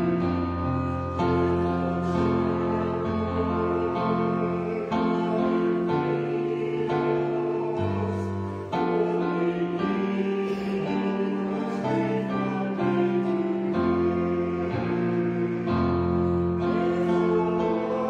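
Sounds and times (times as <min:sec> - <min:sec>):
piano playing sustained chords: 0:00.0 - 0:18.0.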